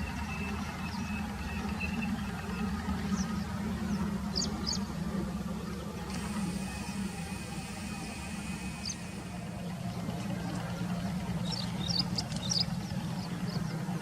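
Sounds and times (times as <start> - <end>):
diesel locomotive engine droning: 0.0 - 14.0.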